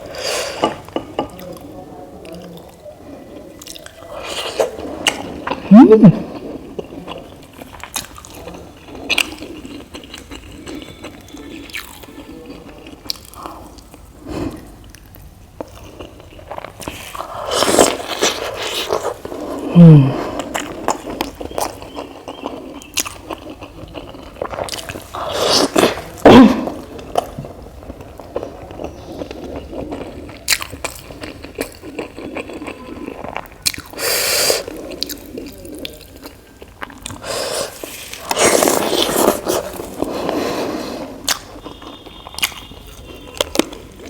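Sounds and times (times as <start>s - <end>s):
chewing and squishing food: 0.0s - 44.0s.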